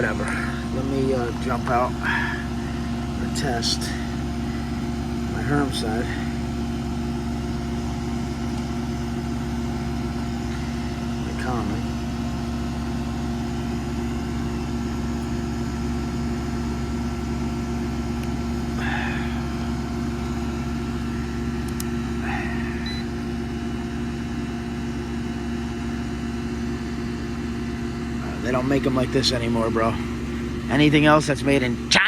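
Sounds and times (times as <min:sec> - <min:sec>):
air conditioner unit humming: 0:00.0 - 0:32.0.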